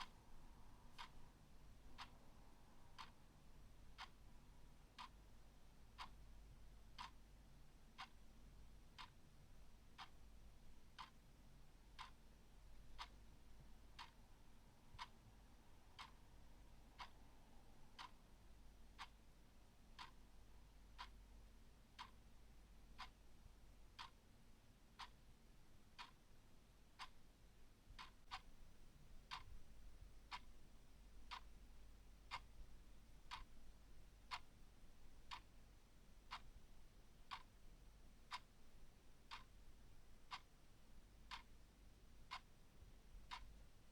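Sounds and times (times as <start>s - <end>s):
clock ticking faintly: 0.0s - 43.9s.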